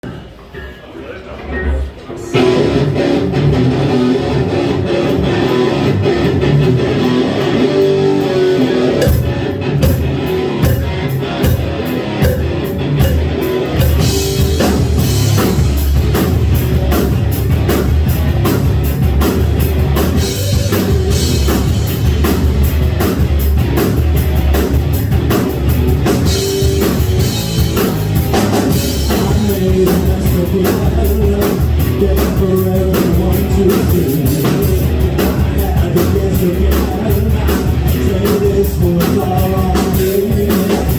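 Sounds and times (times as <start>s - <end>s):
drums: 1.8s - 40.9s
electric guitar: 2.3s - 40.9s
live rock band playing: 2.4s - 40.9s.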